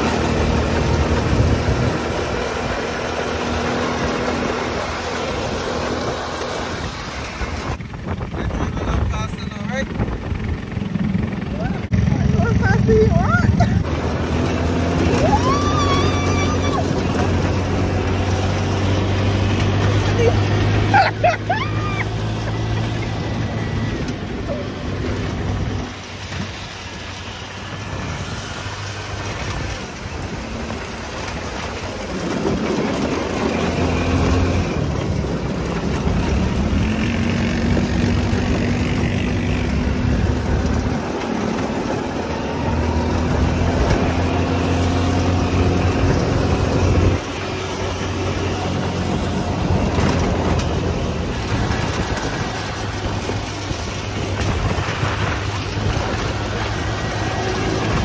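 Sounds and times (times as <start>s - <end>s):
buggy engine running: 0.0s - 58.0s.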